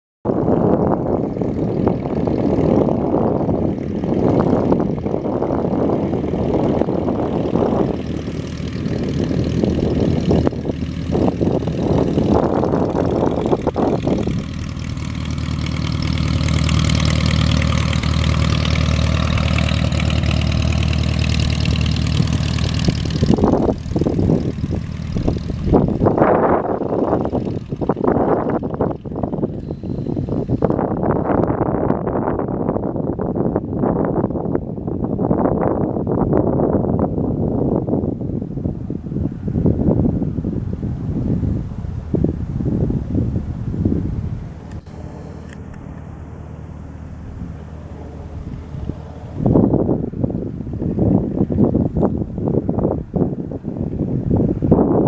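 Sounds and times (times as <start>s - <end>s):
wind buffeting microphone: 0.2s - 55.0s
propeller engine drone: 0.3s - 55.0s.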